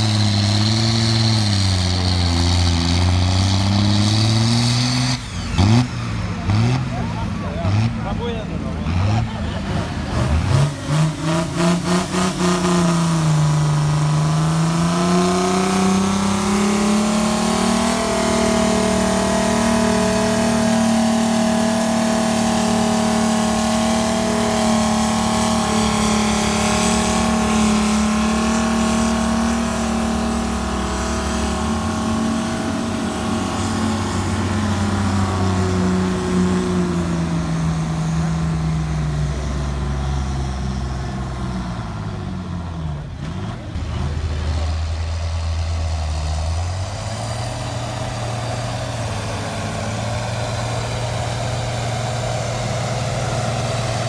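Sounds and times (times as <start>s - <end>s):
diesel tractor engine under full load: 0.0s - 54.0s.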